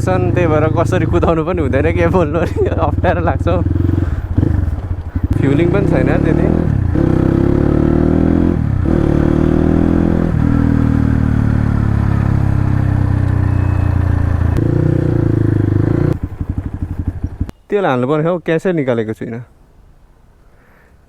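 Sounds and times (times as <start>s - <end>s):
motorcycle engine accelerating: 0.0s - 17.6s.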